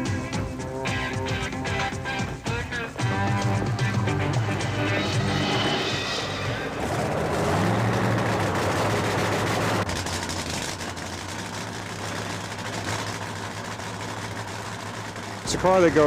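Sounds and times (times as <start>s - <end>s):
drag racing engine: 0.0s - 16.0s.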